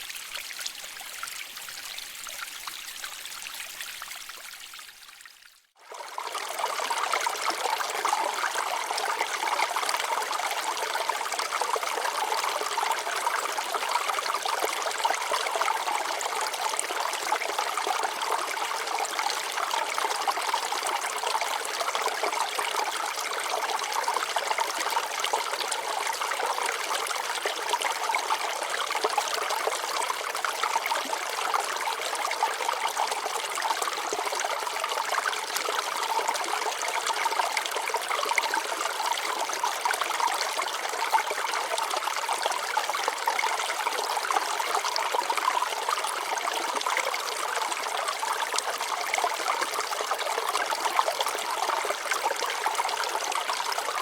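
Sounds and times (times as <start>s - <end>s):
water trickling over rocks: 0.0s - 54.0s.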